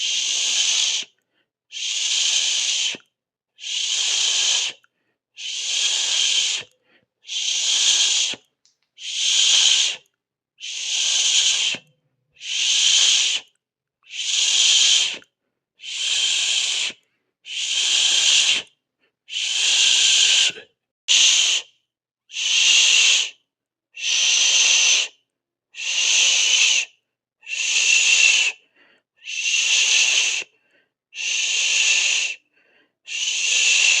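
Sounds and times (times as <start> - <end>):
person hissing through teeth: 0.0 - 18.7, 19.3 - 23.4, 24.0 - 25.2, 25.8 - 28.6, 29.2 - 32.5, 33.1 - 34.0.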